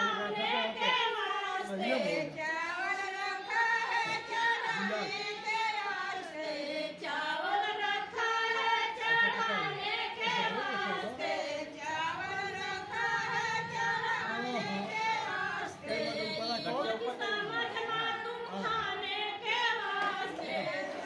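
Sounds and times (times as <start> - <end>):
women singing without instruments: 0.0 - 21.0.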